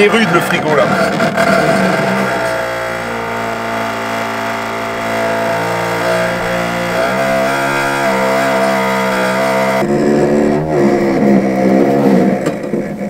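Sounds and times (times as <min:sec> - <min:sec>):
vibrating power tool buzzing: 0:00.0 - 0:12.7.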